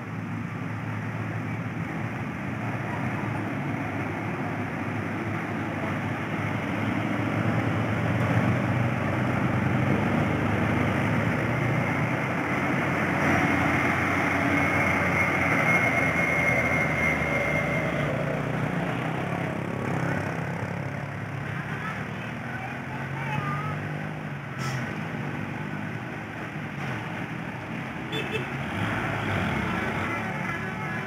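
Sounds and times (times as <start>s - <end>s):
road traffic: 0.0s - 31.0s
truck diesel engine labouring: 0.0s - 31.0s
passing motorcycles: 2.6s - 31.0s.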